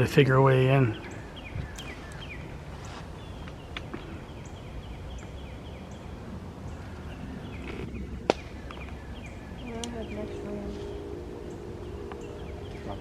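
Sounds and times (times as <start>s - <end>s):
bird chirping: 0.0s - 13.0s
outdoor background noise: 0.0s - 13.0s.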